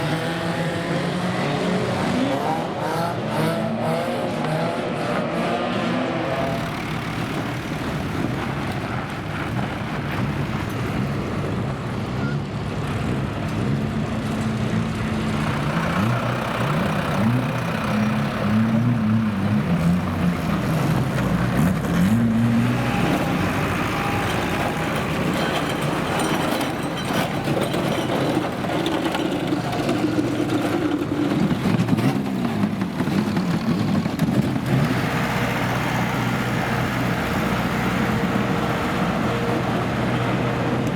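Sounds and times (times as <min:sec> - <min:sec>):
racing car engines revving: 0:00.0 - 0:40.9.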